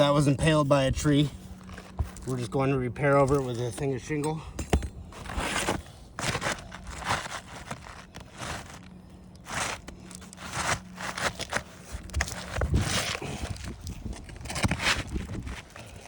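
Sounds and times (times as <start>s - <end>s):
shingles scraping and crinkling: 0.0s - 16.0s.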